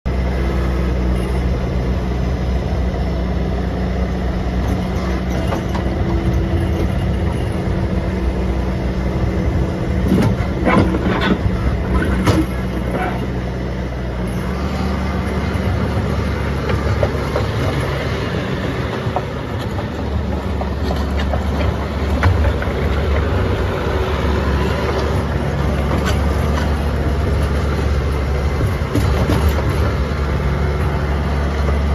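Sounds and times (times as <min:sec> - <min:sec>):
diesel engine running: 0:00.1 - 0:31.9.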